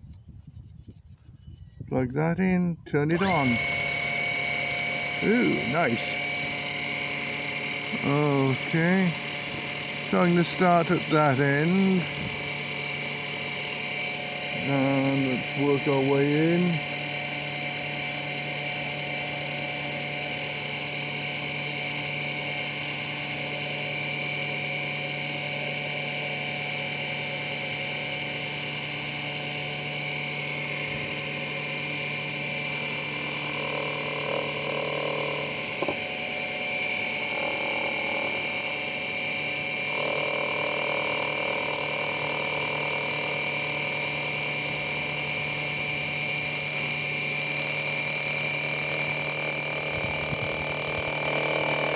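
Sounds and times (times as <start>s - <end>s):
lathe motor whining: 3.0s - 51.9s
tool cutting wood: 3.0s - 51.9s.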